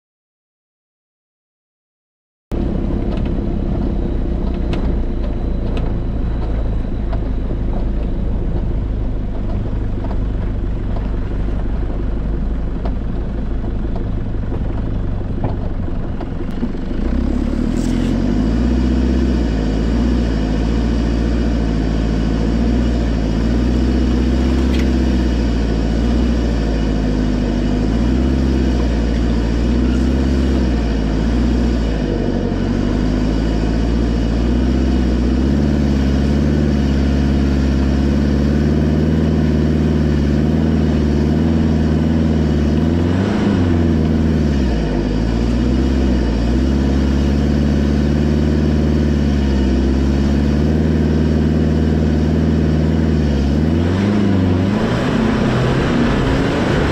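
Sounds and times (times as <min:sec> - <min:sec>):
vehicle engine running: 0:02.5 - 0:56.9.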